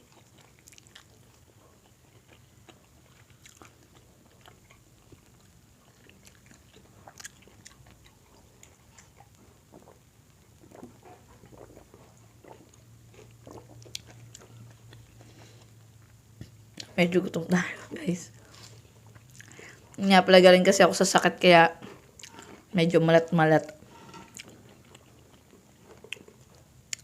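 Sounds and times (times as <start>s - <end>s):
person chewing food: 0.0s - 17.0s, 17.8s - 20.0s, 21.8s - 22.8s, 23.7s - 27.0s.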